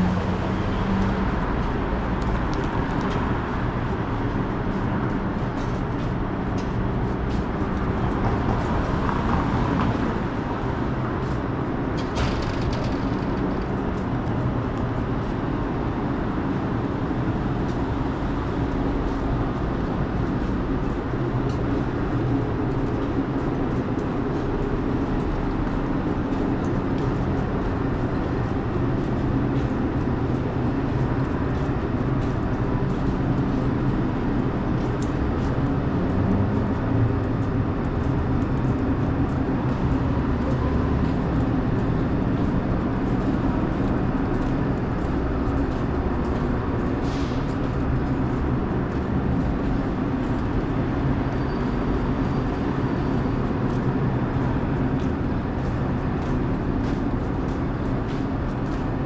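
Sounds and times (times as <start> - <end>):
city street traffic rumble: 0.0 - 59.0.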